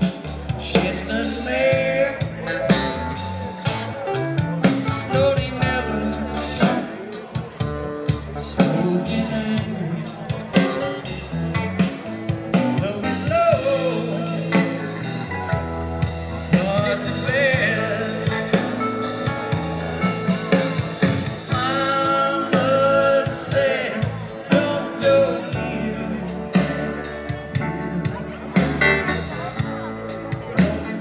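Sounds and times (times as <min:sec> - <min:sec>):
person singing: 0:00.0 - 0:11.0, 0:12.5 - 0:15.5, 0:16.4 - 0:31.0
drum kit: 0:00.0 - 0:31.0
electric guitar: 0:00.0 - 0:31.0
keyboard: 0:00.0 - 0:31.0.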